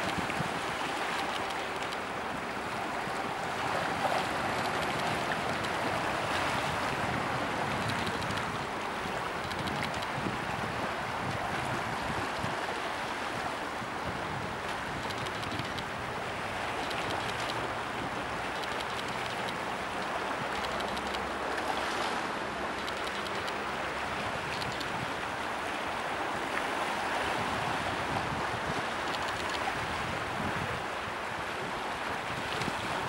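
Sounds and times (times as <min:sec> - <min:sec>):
choppy water rushing: 0:00.0 - 0:33.0
waves washing against concrete: 0:00.0 - 0:33.0.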